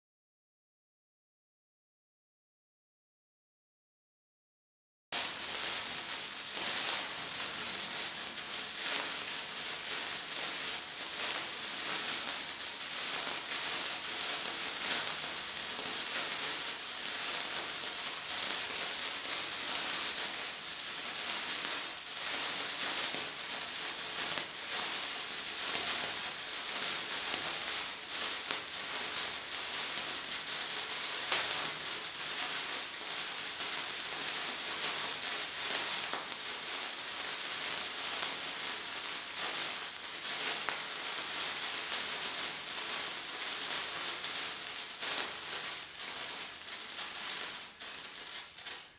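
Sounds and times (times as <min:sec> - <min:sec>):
firework hissing crackle: 0:05.2 - 0:48.9.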